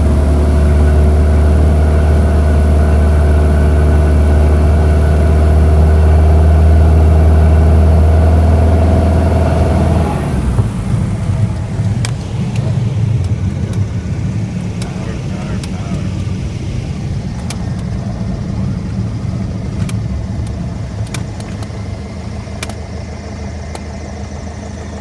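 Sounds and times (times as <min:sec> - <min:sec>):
airplane engine and propeller: 0:00.0 - 0:25.0.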